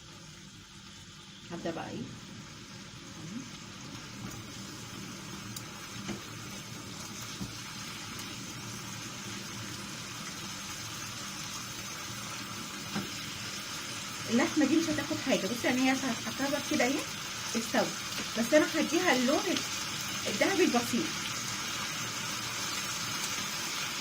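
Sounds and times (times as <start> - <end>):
steak sizzling in a frying pan: 0.0 - 24.0.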